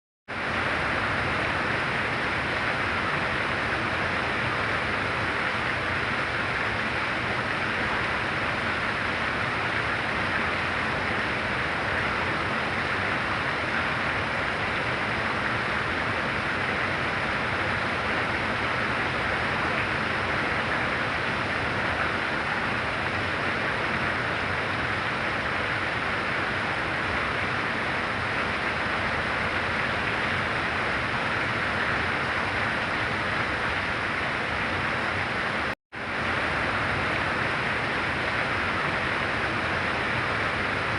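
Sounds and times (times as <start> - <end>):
heavy rain falling: 0.3 - 40.9.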